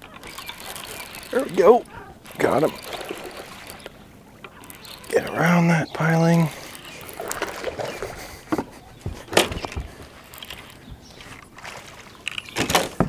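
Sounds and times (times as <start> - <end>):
knocks and clicks on boat: 0.0 - 13.0.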